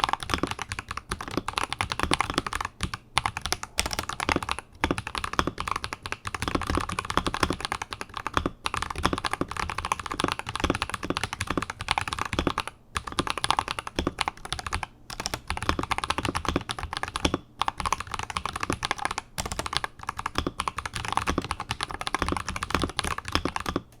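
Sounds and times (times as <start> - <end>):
mechanical keyboard typing: 0.0 - 24.0.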